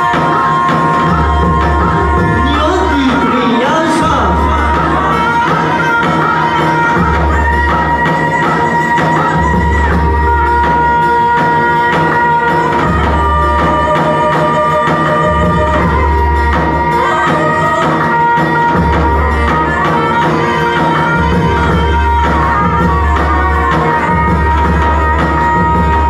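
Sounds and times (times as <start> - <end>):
quick steady drum beat: 0.0 - 26.0.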